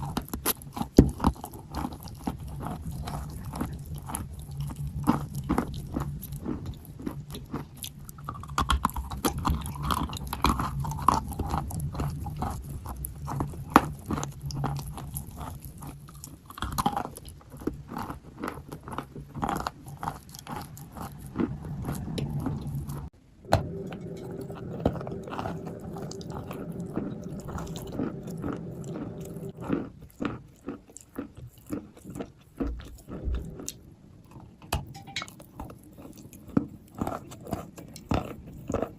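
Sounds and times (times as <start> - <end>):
person crunching and chewing chalk: 0.0 - 38.9.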